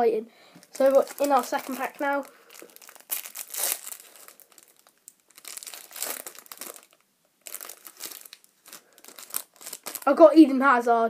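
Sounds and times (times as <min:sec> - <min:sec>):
foil wrapper tearing and crinkling: 0:00.6 - 0:10.1.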